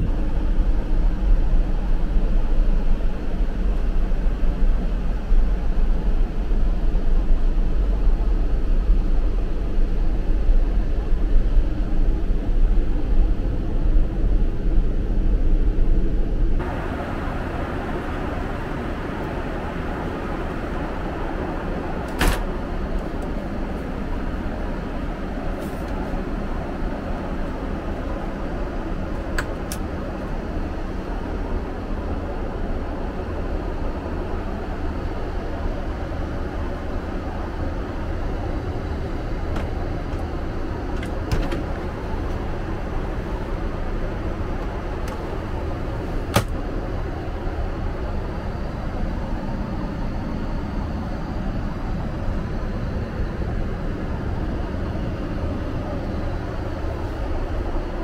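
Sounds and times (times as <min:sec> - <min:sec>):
airliner cabin engine rush: 0:00.0 - 0:58.0.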